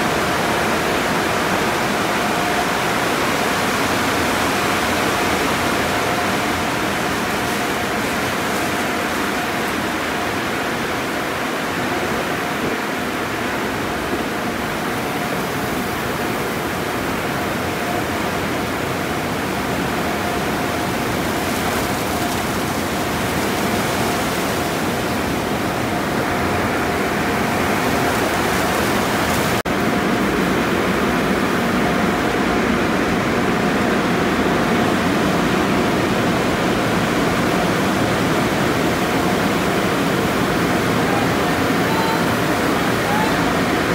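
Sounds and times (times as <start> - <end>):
car wash machinery: 0.0 - 43.9
faint steady whine: 0.0 - 43.9.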